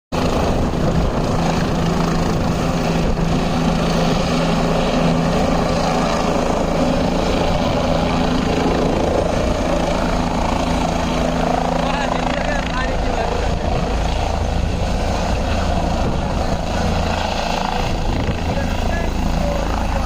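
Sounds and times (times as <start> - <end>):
helicopter rotor whirring: 0.1 - 20.0.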